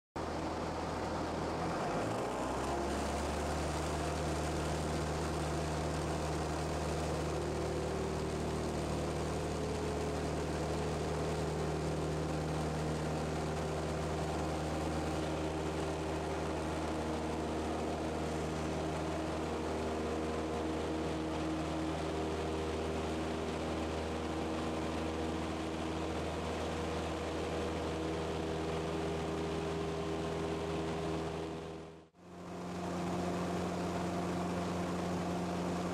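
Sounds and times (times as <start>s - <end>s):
propeller plane engine: 0.2s - 35.9s.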